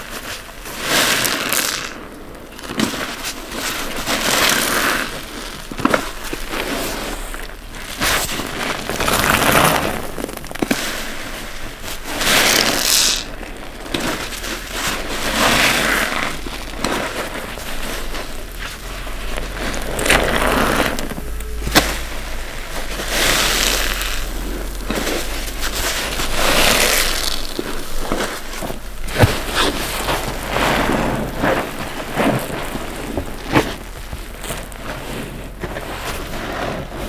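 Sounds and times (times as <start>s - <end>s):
wet sponges squished by hand: 0.0s - 37.0s.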